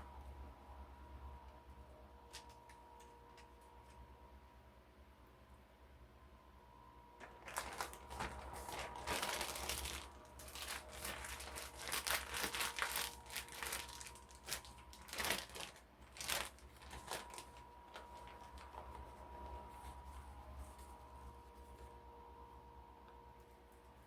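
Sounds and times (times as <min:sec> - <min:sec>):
faint steady hum: 0:00.0 - 0:24.0
crinkling and rustling by hand: 0:01.3 - 0:04.2, 0:07.2 - 0:24.0.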